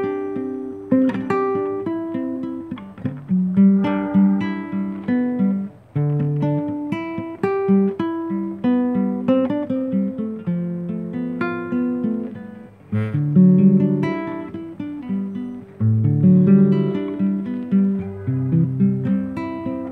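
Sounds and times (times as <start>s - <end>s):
strummed guitar chord: 0.0s - 9.2s, 11.2s - 19.9s
fingerstyle classical guitar: 0.0s - 19.9s.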